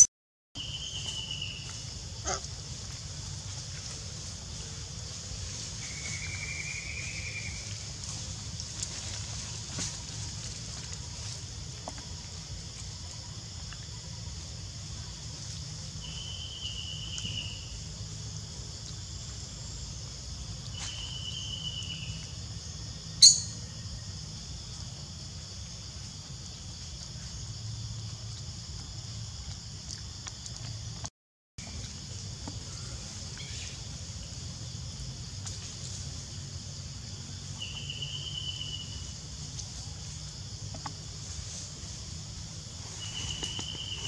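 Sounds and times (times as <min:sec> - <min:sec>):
high insect chorus: 0:00.6 - 0:44.0.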